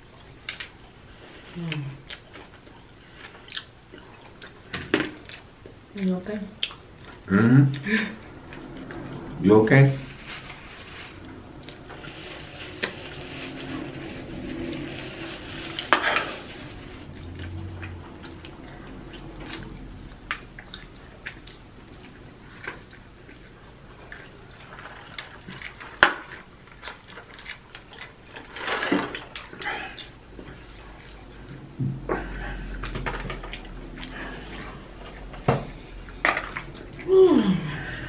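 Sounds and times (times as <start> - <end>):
chewing and crunching: 0.0 - 9.3, 10.0 - 38.0.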